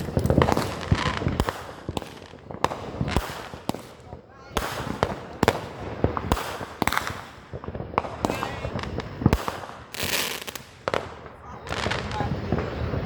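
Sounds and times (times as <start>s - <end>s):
fireworks bangs and crackles: 0.0s - 13.0s
fireworks hissing: 0.0s - 13.0s.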